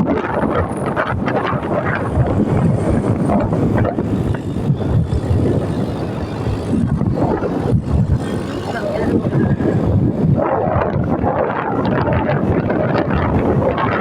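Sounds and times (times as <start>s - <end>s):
motorcycle running: 0.0s - 14.0s
wind buffeting microphone: 0.0s - 14.0s.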